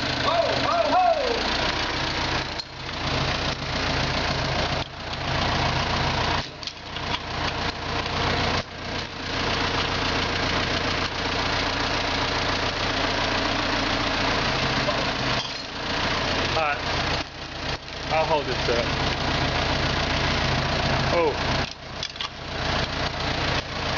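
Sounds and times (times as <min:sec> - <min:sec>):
engine running with hiss and hum: 0:00.0 - 0:23.9.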